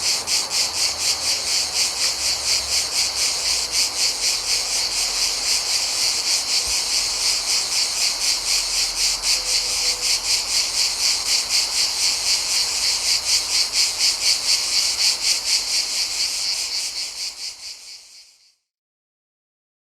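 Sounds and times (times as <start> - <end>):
cicadas chirping: 0.0 - 18.6.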